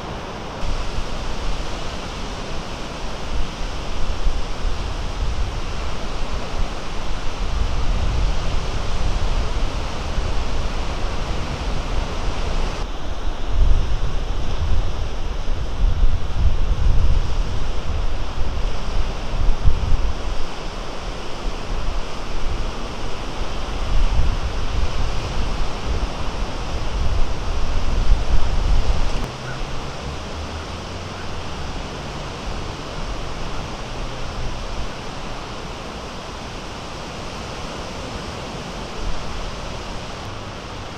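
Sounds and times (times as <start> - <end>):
waves breaking: 0.0 - 40.9
wind buffeting microphone: 0.0 - 40.9.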